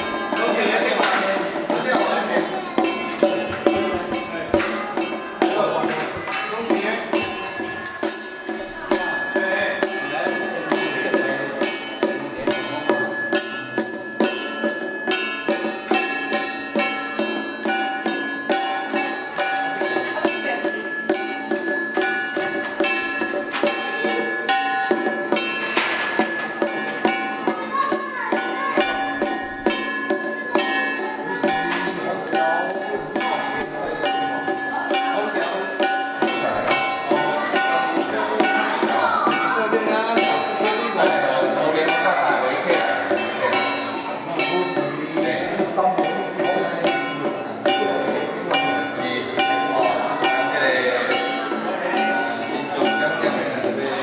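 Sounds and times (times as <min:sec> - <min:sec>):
music: 0:00.0 - 0:54.0
small metal bell ringing: 0:00.0 - 0:54.0.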